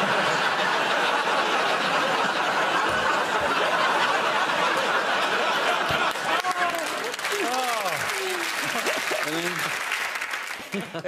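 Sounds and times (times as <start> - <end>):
studio audience laughing: 0.0 - 11.0.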